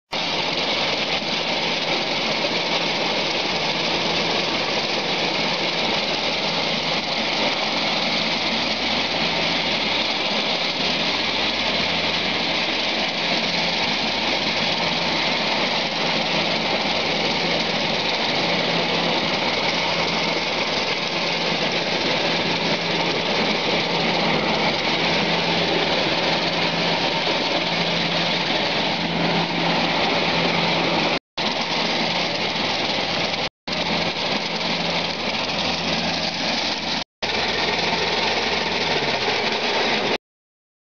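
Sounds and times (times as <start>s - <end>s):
shelling machine running: 0.1s - 40.2s.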